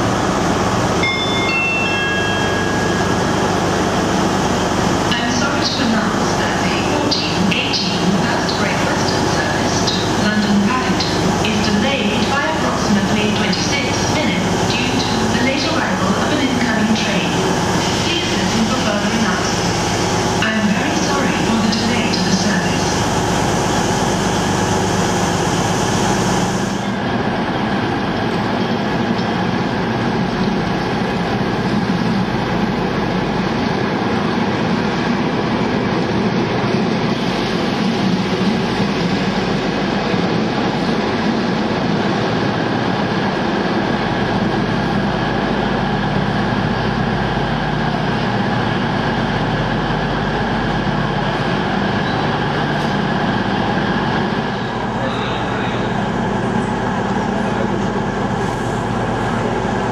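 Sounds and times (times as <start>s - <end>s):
train wheels rumbling on rails: 2.2s - 59.9s.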